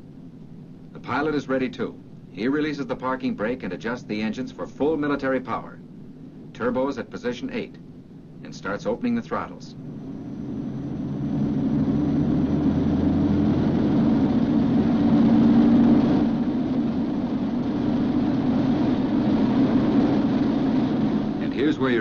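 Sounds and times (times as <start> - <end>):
aircraft radial engines running up: 0.0 - 22.0.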